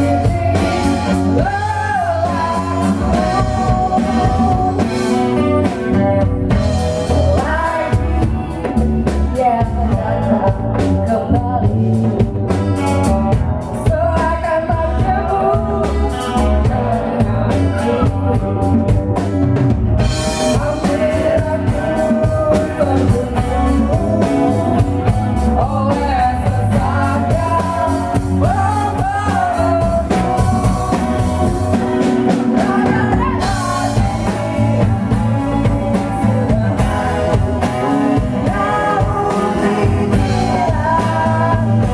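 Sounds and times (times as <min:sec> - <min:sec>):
woman singing: 0:00.0 - 0:19.0, 0:20.2 - 0:41.9
drum kit: 0:00.0 - 0:41.9
electric bass: 0:00.0 - 0:41.9.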